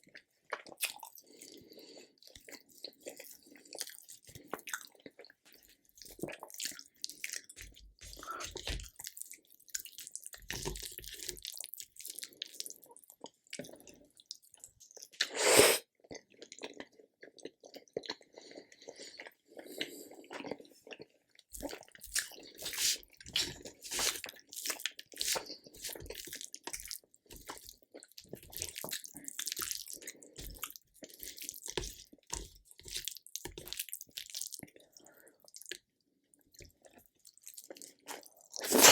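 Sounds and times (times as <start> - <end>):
person chewing food: 0.1 - 38.9.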